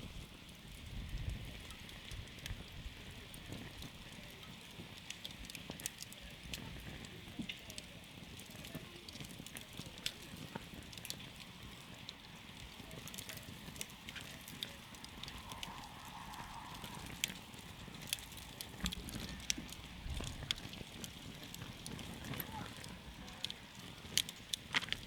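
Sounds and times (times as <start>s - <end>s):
campfire crackling and popping: 0.0s - 25.0s
fire hiss and rumble: 0.0s - 25.0s.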